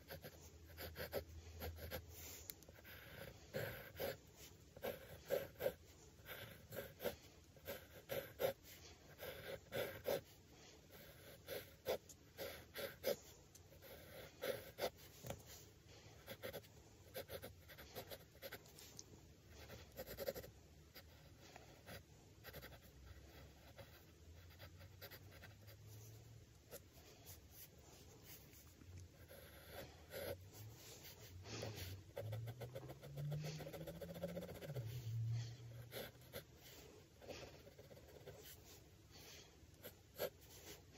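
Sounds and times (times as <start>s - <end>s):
pencil scratching on paper: 0.0s - 19.0s, 19.6s - 38.8s, 39.7s - 40.9s
faint low hum: 0.0s - 40.9s.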